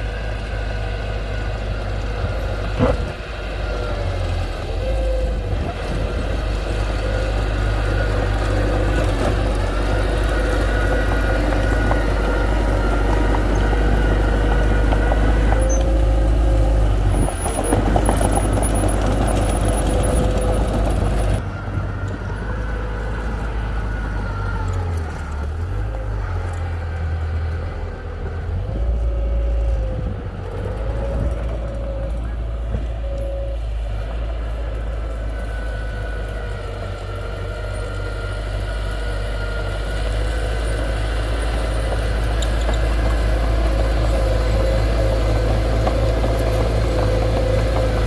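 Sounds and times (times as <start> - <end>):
diesel machinery rumbling with whine: 0.0 - 48.0.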